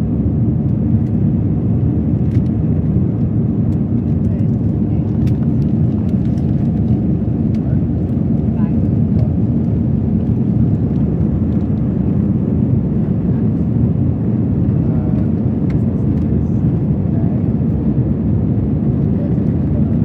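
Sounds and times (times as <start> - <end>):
airliner cabin noise: 0.0 - 20.0.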